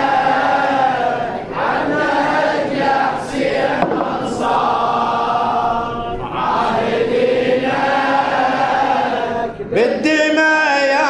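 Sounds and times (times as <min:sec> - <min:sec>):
men chanting together: 0:00.0 - 0:11.0.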